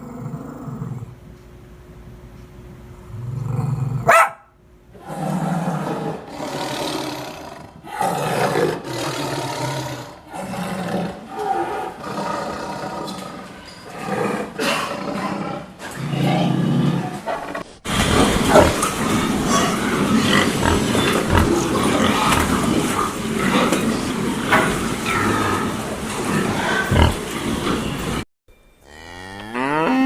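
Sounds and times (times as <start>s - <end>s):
animal roaring and growling: 0.0s - 1.1s, 3.1s - 4.1s, 5.0s - 28.2s.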